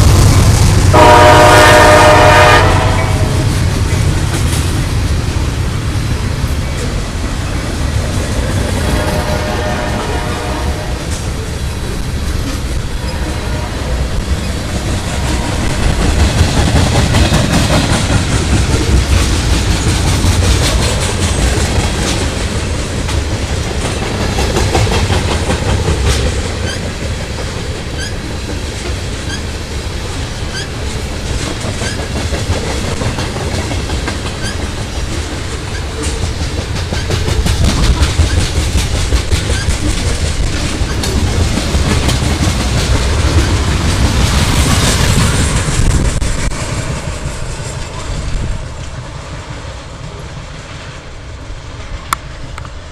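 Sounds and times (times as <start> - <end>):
low train rumble: 0.0 - 52.9
train wheels clicking over rail joints: 0.0 - 52.9.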